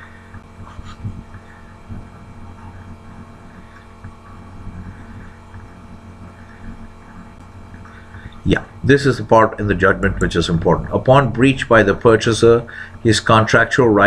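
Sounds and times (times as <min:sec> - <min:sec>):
electrical mains hum: 0:00.0 - 0:14.0
faint room noise: 0:00.0 - 0:14.0.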